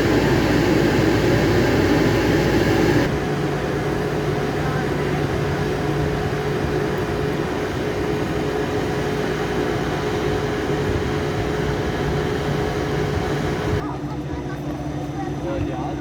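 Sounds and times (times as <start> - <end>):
locomotive mechanical hum: 0.0 - 13.8.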